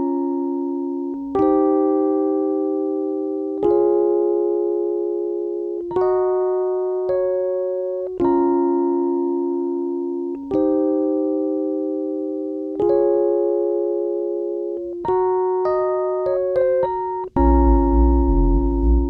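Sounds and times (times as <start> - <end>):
slow keyboard chords: 0.0 - 19.0.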